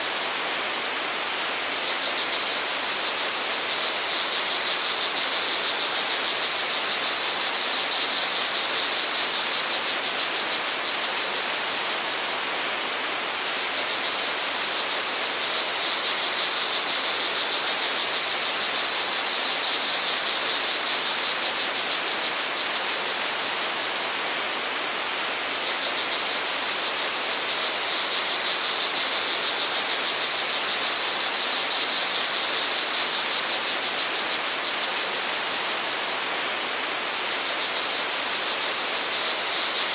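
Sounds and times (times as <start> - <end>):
crickets trilling: 0.1 - 24.0, 25.5 - 39.9.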